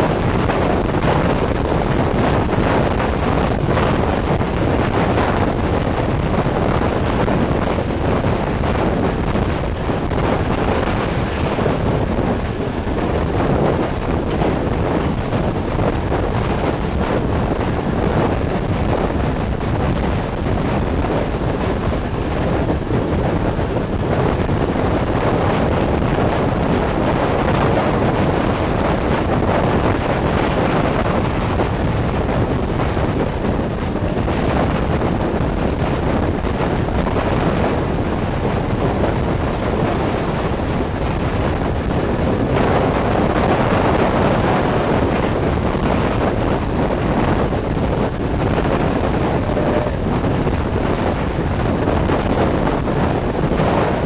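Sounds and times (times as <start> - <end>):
train carriages running on track: 0.0 - 52.0
wind buffeting microphone: 0.0 - 54.0.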